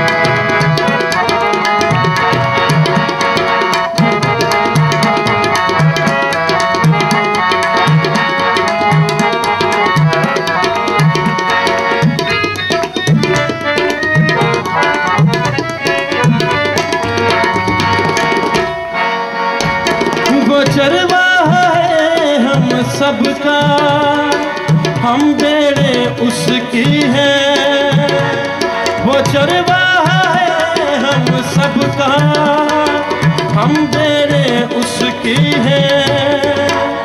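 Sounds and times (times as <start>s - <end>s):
harmonium melody: 0.0s - 37.0s
tabla beat: 0.0s - 37.0s.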